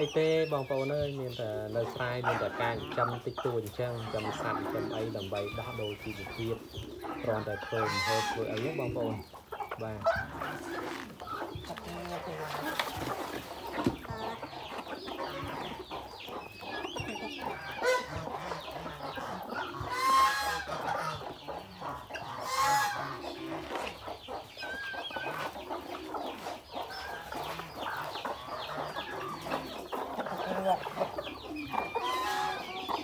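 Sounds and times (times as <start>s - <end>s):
chickens clucking: 0.0s - 33.0s
loud chicken calls: 0.0s - 33.0s.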